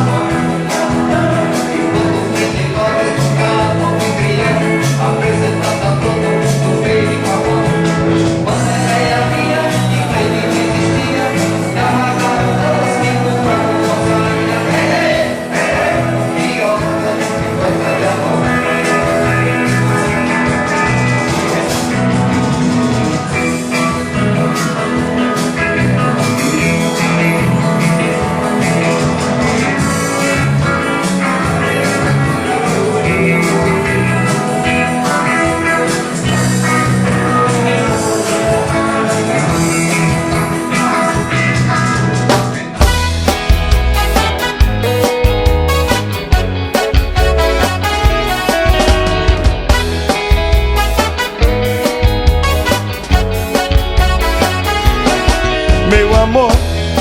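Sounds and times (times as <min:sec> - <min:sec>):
band playing rock and roll: 0:00.0 - 0:57.0.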